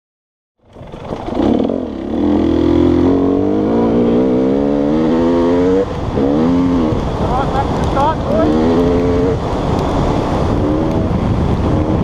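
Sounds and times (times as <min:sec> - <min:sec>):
dirt bike engine revving: 0:00.7 - 0:12.0.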